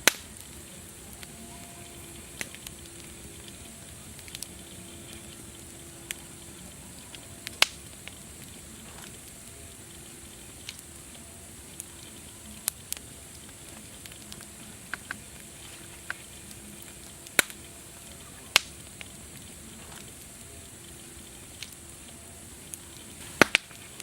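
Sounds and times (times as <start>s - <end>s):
sharp pops and snaps: 0.0s - 1.4s, 2.1s - 24.0s
wood fire crackling: 0.0s - 24.0s.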